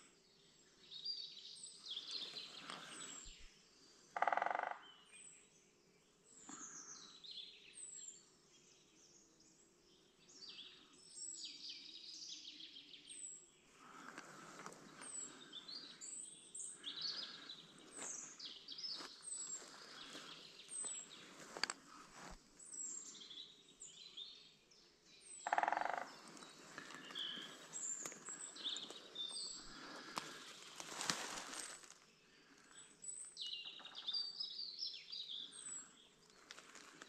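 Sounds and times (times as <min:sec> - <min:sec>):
songbirds singing: 0:00.0 - 0:37.0.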